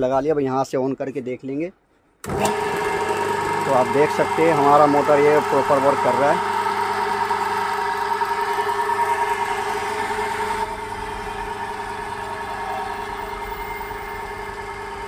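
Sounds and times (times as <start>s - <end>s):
electric motor humming and whining: 2.3s - 15.0s.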